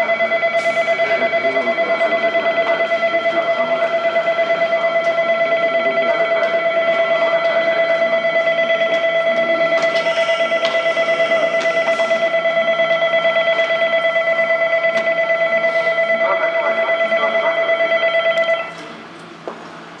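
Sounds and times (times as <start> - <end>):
platform bell ringing: 0.0 - 18.9.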